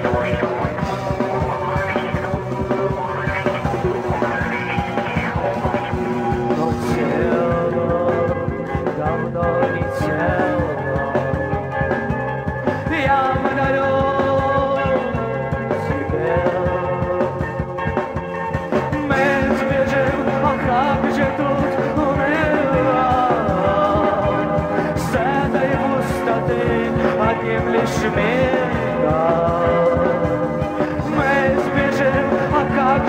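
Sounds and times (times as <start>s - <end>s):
alternative rock band music: 0.0s - 33.0s.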